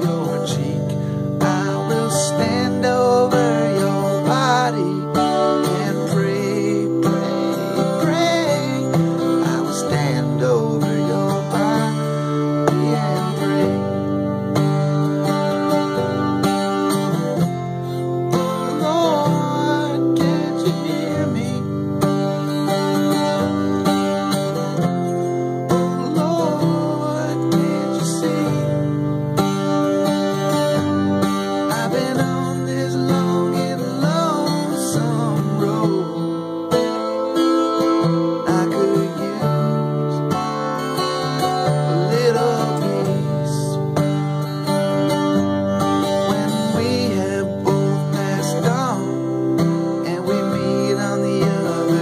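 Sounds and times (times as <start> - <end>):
acoustic guitar: 0.0 - 52.0
man singing with vibrato: 0.0 - 52.0.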